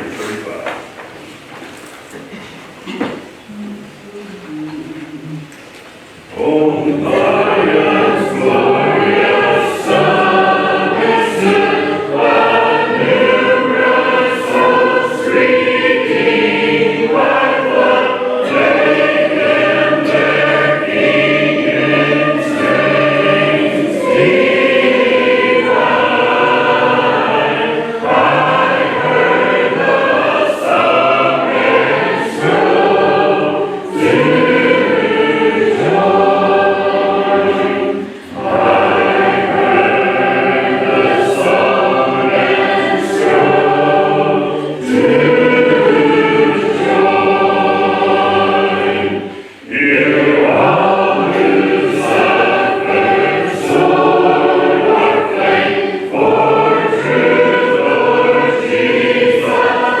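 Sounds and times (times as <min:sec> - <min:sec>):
congregation singing a hymn: 0:00.0 - 1:00.0.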